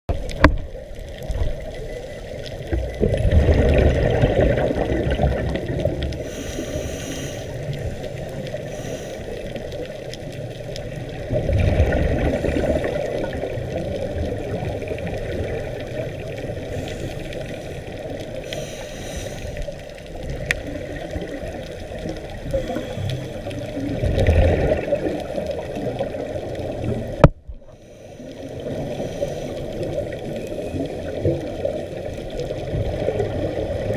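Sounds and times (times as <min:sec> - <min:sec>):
underwater bubbles gurgling: 0:00.1 - 0:33.9.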